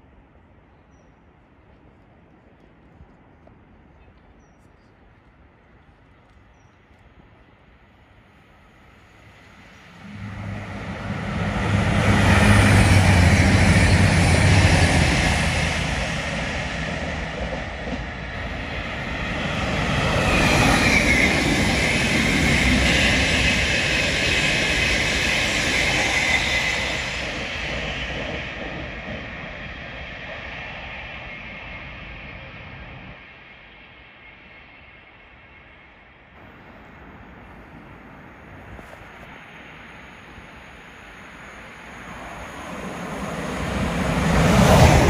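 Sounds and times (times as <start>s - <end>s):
high train whine: 0.0s - 45.0s
train passing: 0.0s - 45.0s.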